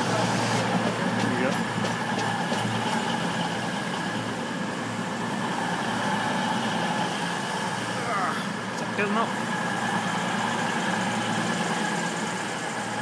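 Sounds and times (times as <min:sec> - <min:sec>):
diesel train engines humming: 0:00.0 - 0:13.0.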